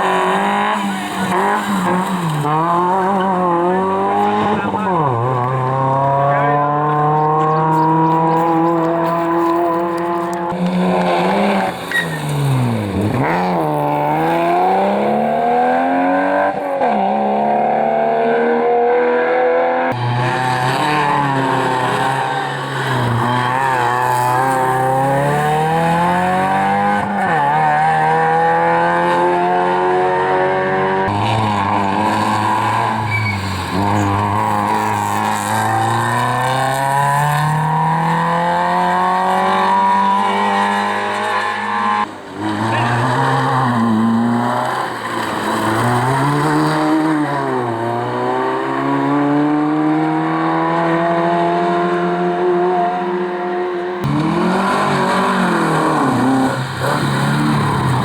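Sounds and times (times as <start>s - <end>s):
rally cars racing past: 0.0s - 58.0s.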